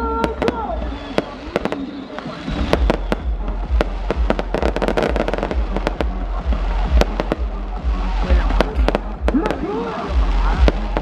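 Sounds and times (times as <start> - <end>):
fireworks cracking: 0.0 - 11.0.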